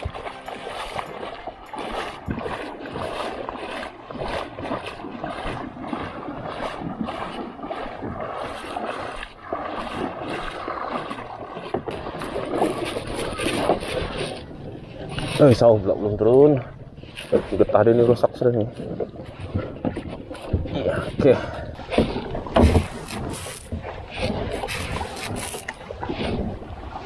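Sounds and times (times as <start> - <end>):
paddle blades splashing: 0.0 - 27.0
water washing along hull: 0.0 - 27.0.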